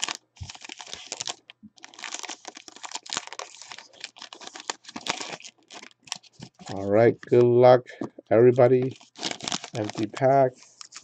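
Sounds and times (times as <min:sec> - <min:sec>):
foil wrapper crinkling: 0:00.0 - 0:07.5, 0:08.7 - 0:11.0.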